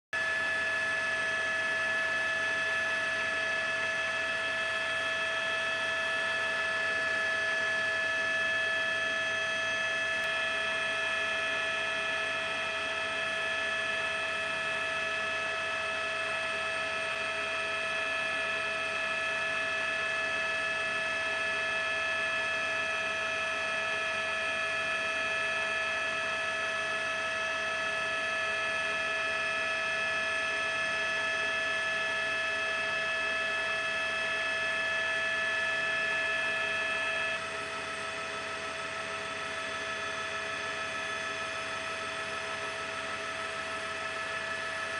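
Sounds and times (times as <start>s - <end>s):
helicopter engine whine: 0.2s - 44.9s.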